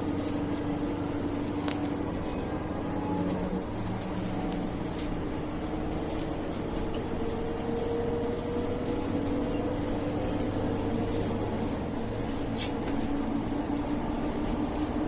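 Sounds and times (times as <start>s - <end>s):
bus engine drone: 0.0s - 15.0s
bus whine: 0.0s - 15.0s.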